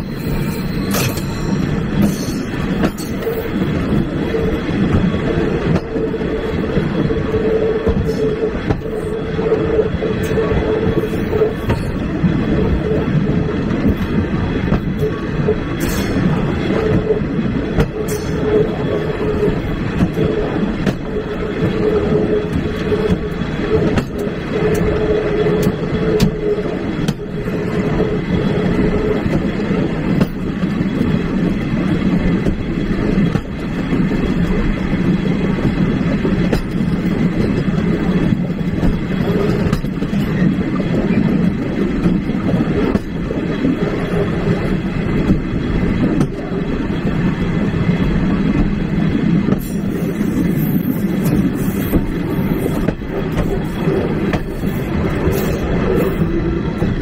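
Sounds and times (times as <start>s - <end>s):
train carriage rolling on track: 0.0s - 57.0s.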